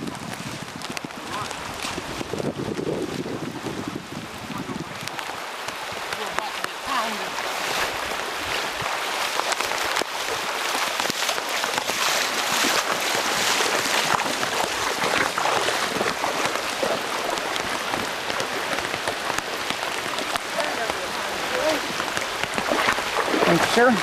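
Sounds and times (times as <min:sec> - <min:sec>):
heavy rain on river: 0:00.0 - 0:24.0
river current rushing: 0:00.5 - 0:24.0.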